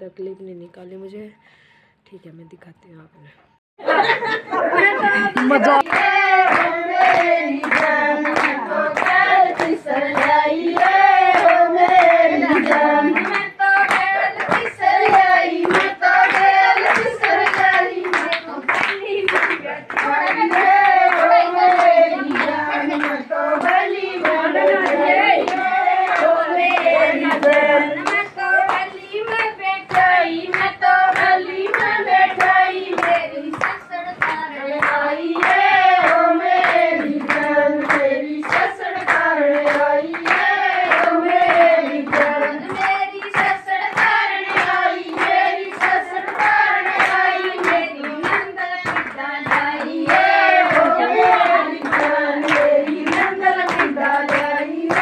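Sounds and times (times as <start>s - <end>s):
women singing together: 3.8s - 55.0s
rhythmic hand-clapping: 3.9s - 55.0s.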